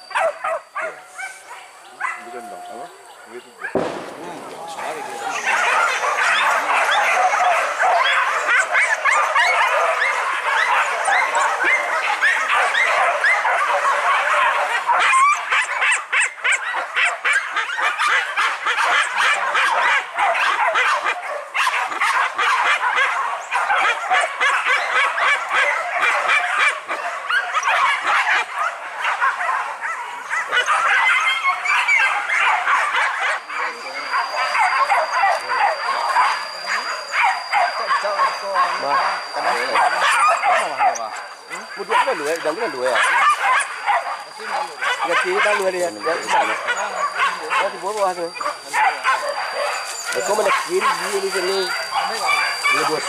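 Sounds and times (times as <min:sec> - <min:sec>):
dogs barking and yelping: 0:00.0 - 0:53.0.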